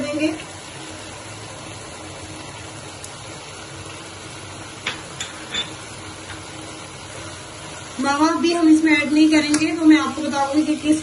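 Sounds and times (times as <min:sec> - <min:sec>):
carrots sizzling in a pan: 0:00.0 - 0:11.0.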